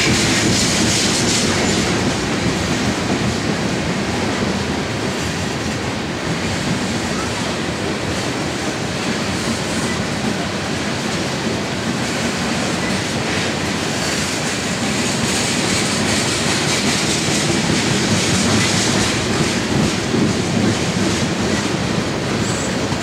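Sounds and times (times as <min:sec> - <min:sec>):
train wheels clattering on rails: 0:00.0 - 0:23.0.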